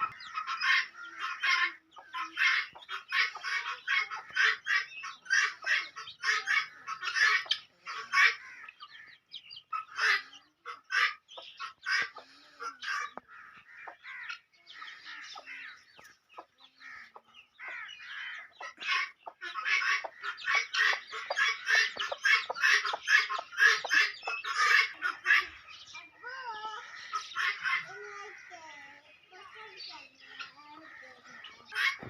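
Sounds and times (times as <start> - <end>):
chickens clucking and calling: 0.0 - 32.0.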